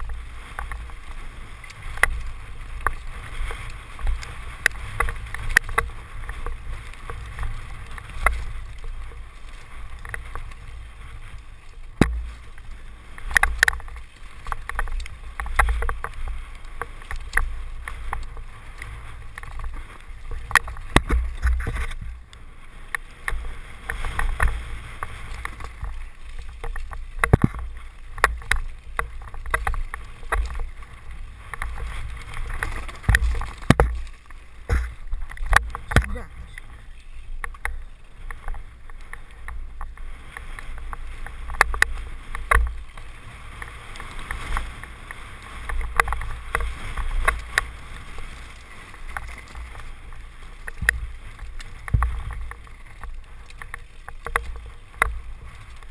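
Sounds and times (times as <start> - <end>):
bike clicks and rattles: 0.0 - 55.9
wind rumble on microphone: 0.0 - 55.9.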